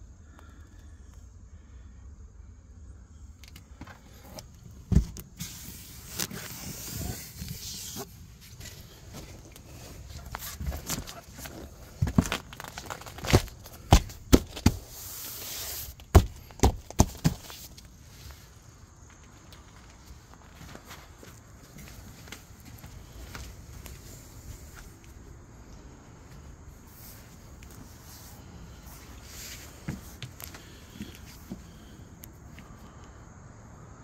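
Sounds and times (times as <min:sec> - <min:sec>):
rustling hiss: 0:03.2 - 0:13.9, 0:14.7 - 0:16.5, 0:17.2 - 0:33.2.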